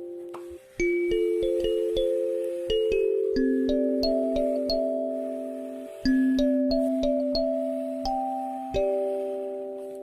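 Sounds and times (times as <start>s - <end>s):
bell-like keyboard music: 0.0s - 10.0s.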